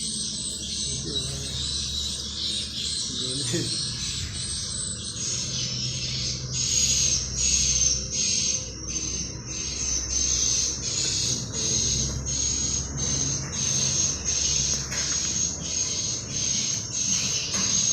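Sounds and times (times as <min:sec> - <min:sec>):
swiftlet twittering chirps: 0:00.0 - 0:17.9.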